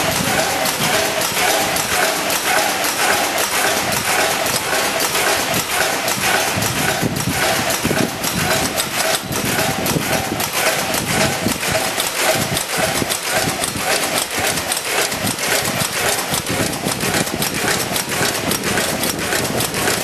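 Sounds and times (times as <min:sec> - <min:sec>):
machine clicking and clattering: 0:00.0 - 0:20.0.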